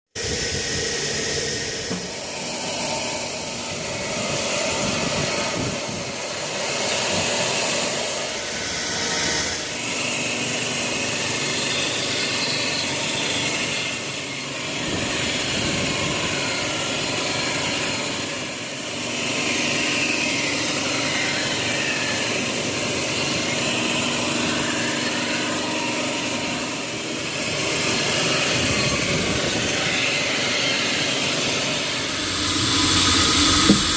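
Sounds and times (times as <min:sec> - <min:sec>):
sawmill saw cutting wood: 0:00.2 - 0:33.9.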